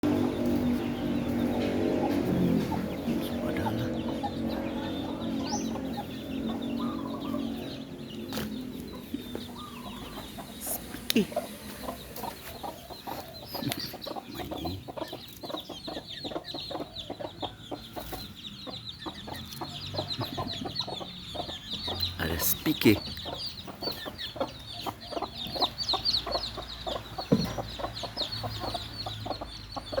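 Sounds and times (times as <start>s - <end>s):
chickens clucking: 0.0s - 30.0s
high peeps and chirps: 0.0s - 30.0s.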